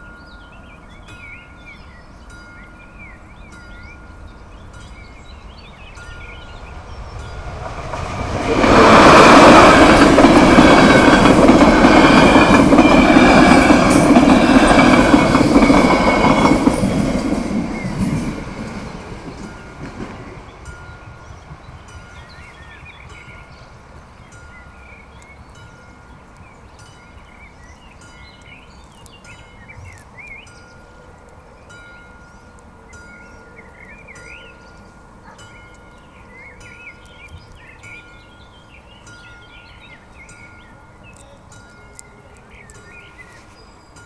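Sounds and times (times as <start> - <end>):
level crossing warning bell: 0.0 - 29.8, 30.4 - 37.2, 37.8 - 44.0
birds chirping: 0.0 - 44.0.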